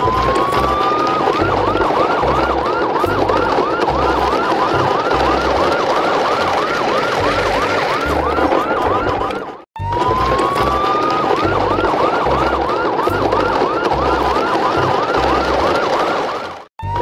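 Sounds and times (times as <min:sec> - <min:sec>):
emergency siren yelping: 0:00.0 - 0:17.0.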